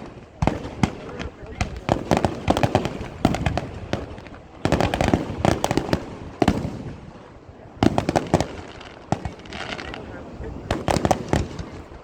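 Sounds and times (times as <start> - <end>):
fireworks bangs echoing: 0.0 - 12.0.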